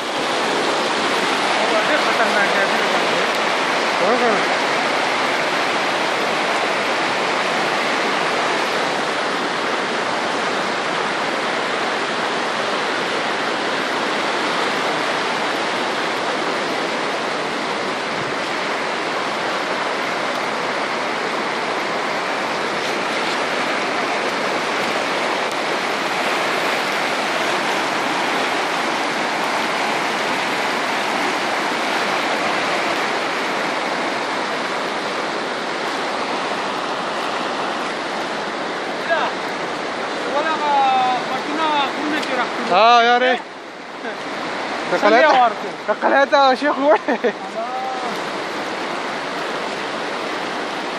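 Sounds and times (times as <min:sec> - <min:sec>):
floodwater rushing: 0:00.0 - 0:50.9.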